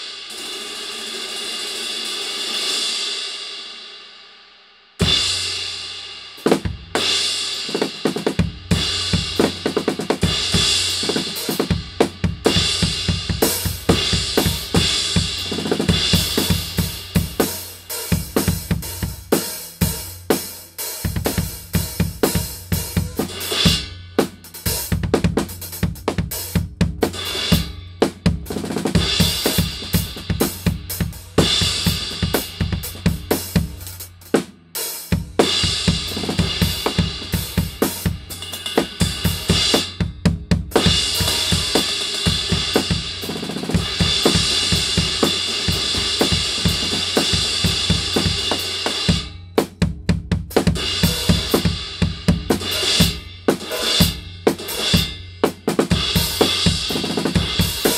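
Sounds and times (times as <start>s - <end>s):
drum kit playing: 0.0s - 3.8s, 5.0s - 57.9s.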